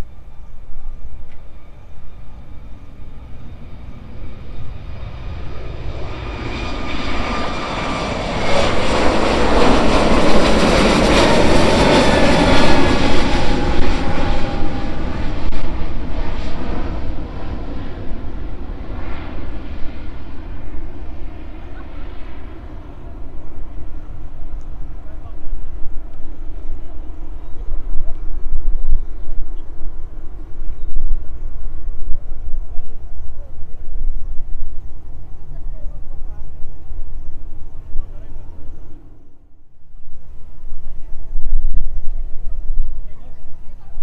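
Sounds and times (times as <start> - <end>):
falling engine whine: 0.0 - 42.8
jet engines passing by: 0.0 - 44.0.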